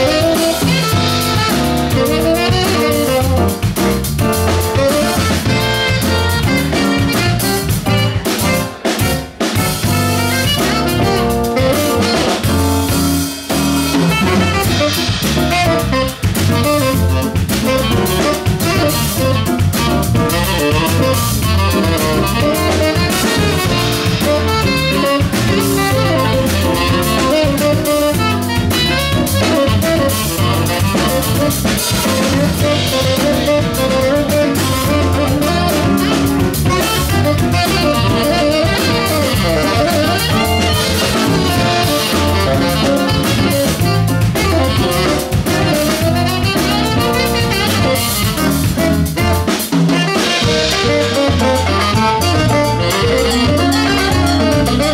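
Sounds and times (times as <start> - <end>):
drum kit beat: 0.0 - 54.9
saxophone lead: 0.0 - 54.9.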